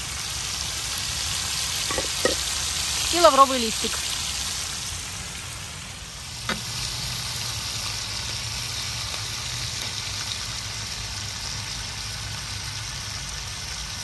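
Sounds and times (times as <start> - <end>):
potatoes sizzling in oil: 0.0 - 14.0.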